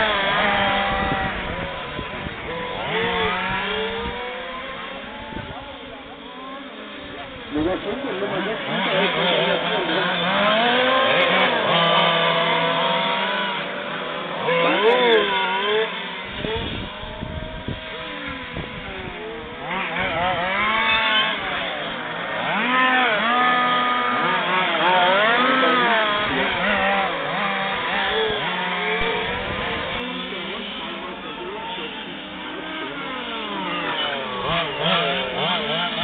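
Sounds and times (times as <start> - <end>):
small two-stroke engines buzzing: 0.0 - 36.0.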